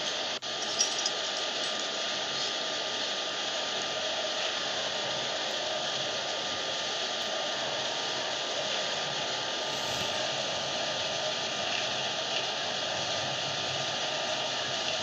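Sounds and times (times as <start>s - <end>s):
appliance blowing air: 2.1s - 15.0s.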